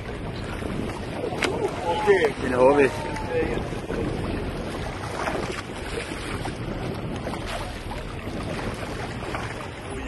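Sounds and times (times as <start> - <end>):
steady low rumble: 0.0 - 10.0
water rushing against boat hull: 0.0 - 10.0
wind buffeting microphone: 0.0 - 10.0.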